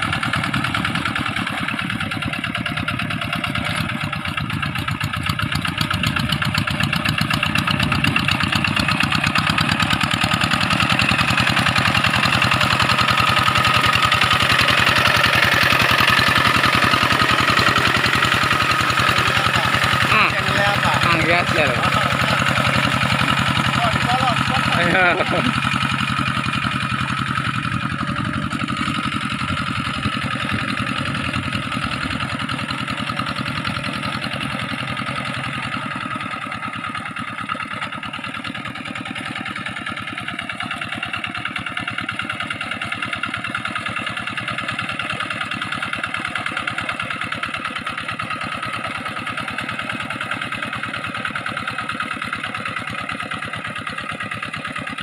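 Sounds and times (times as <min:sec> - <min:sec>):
tractor engine chugging: 0:00.0 - 0:55.0.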